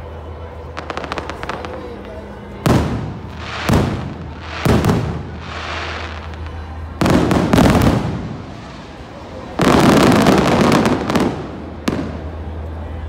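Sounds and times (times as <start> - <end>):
fireworks crackling: 0.6 - 13.0
fireworks bursting: 0.7 - 12.8.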